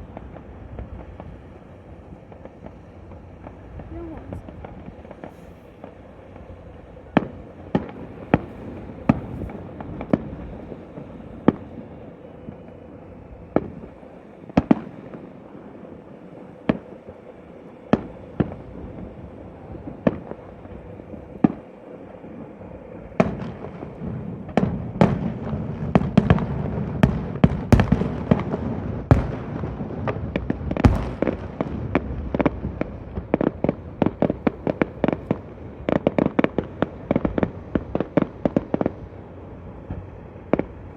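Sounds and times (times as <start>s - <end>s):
fireworks bangs: 0.0s - 40.9s
fireworks rumble and crackle: 0.0s - 40.9s.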